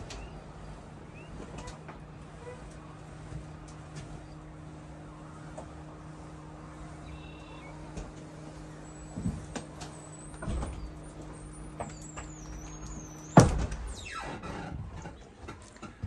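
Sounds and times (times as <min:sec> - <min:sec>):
hydraulic slide-out humming: 0:00.0 - 0:16.0.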